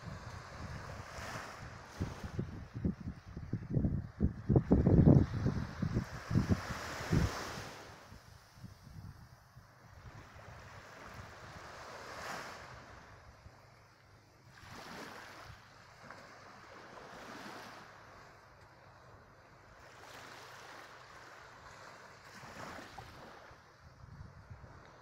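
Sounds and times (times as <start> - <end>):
gentle waves washing on sand: 0.0 - 8.7, 9.9 - 25.0.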